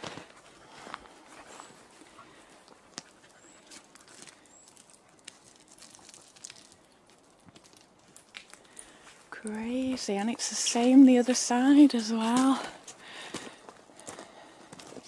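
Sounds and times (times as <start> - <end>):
footsteps crunching on path: 0.0 - 15.0.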